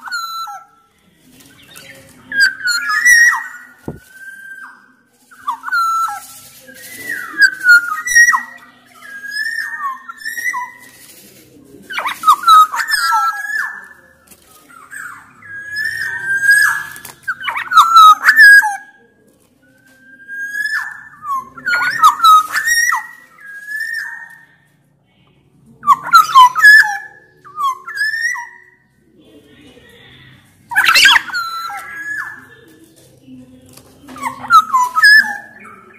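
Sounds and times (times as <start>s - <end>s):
oriole singing whistled phrases: 0.0s - 11.0s, 11.8s - 19.0s, 19.6s - 24.6s, 25.8s - 29.0s, 30.7s - 35.9s.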